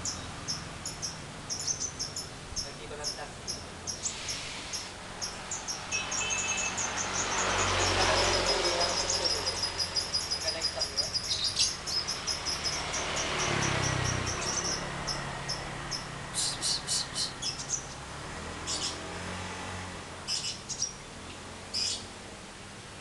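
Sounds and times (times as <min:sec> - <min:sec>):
lovebirds chirping: 0:00.0 - 0:19.1, 0:20.2 - 0:22.2.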